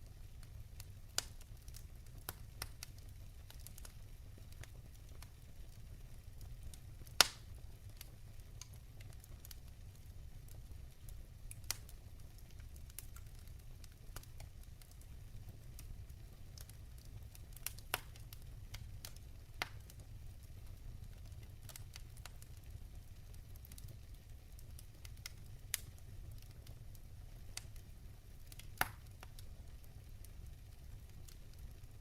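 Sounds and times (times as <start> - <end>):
fire popping: 0.0 - 32.0
logs crackling in fireplace: 0.0 - 32.0
low fire rumble: 0.0 - 32.0.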